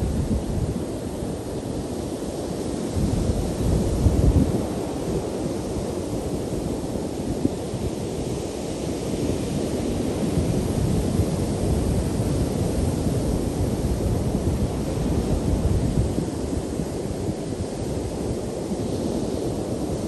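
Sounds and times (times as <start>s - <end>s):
wind buffeting microphone: 0.0s - 1.9s, 2.5s - 20.0s.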